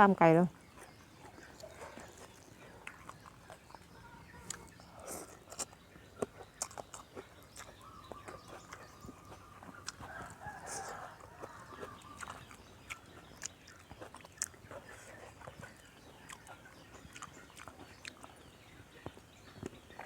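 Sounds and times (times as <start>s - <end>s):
chewing and crunching food: 0.5s - 20.0s.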